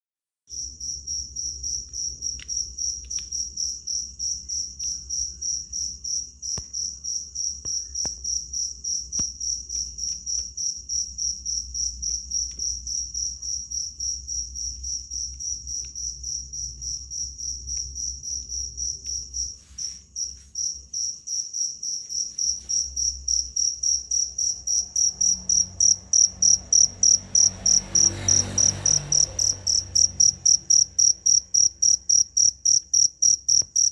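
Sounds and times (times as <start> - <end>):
cricket chirping: 0.5 - 33.9.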